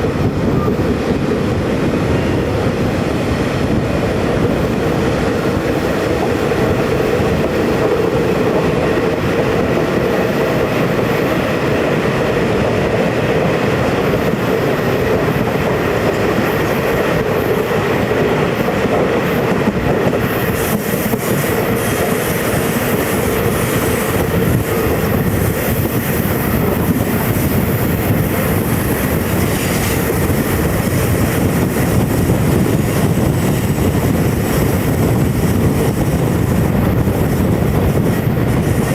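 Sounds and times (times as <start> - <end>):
train wheels clickety-clack: 0.0 - 38.9.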